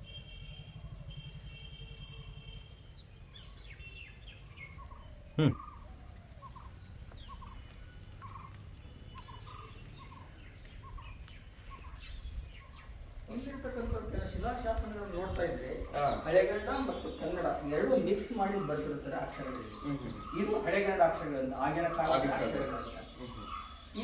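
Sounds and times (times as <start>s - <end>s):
small birds chirping: 0.1s - 24.0s.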